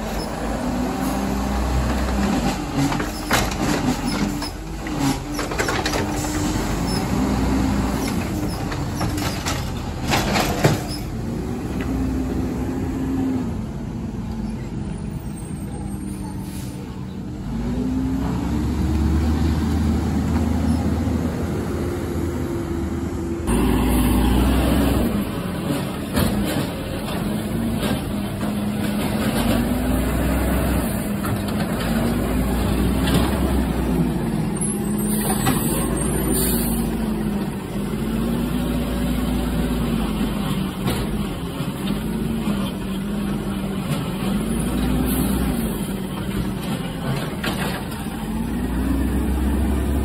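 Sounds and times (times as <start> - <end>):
garbage truck engine revving: 0.0 - 13.7, 17.4 - 50.0.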